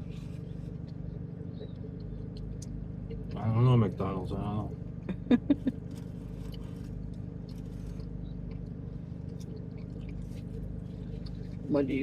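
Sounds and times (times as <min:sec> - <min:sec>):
car engine idling hum: 0:00.0 - 0:12.0.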